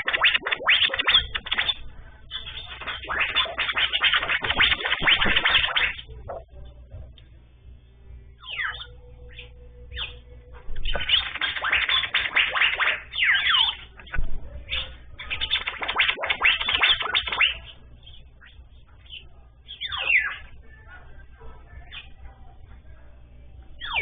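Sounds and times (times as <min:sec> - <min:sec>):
small birds chirping: 0:00.1 - 0:06.5, 0:08.3 - 0:20.9, 0:21.7 - 0:22.2, 0:23.8 - 0:24.0.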